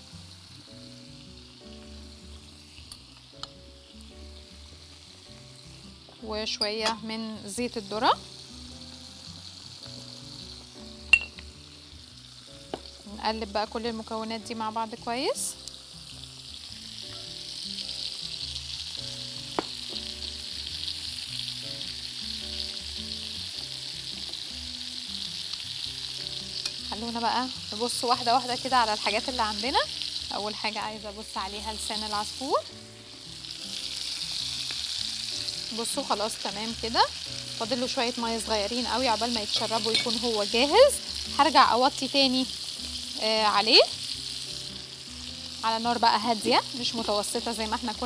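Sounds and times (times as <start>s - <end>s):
meat sizzling in a frying pan: 0.0s - 48.0s
soft background music: 0.0s - 48.0s.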